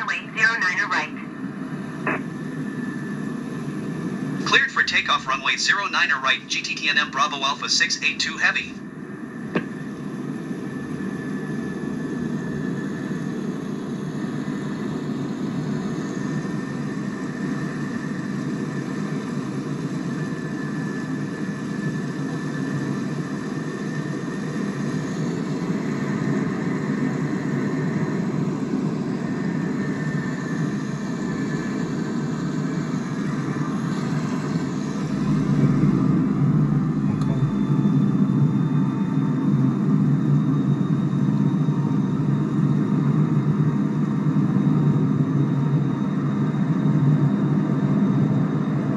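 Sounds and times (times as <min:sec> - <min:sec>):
jet engines at takeoff power: 0:00.0 - 0:48.9.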